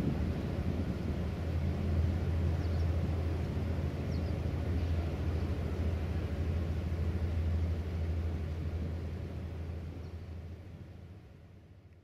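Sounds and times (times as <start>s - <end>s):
low engine drone over water: 0.0s - 12.0s.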